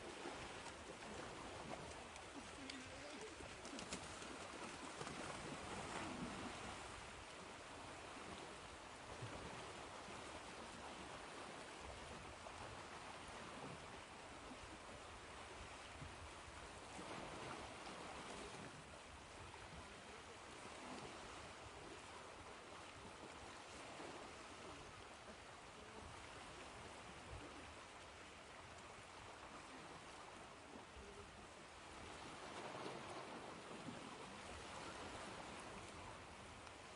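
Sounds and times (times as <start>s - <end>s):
faint ocean surf: 0.0s - 36.9s.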